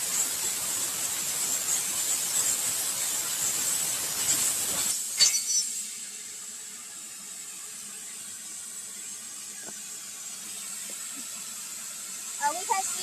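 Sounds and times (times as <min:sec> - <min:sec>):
machine hiss and hum: 0:00.0 - 0:13.0
plasma cutter cutting hiss: 0:00.0 - 0:13.0.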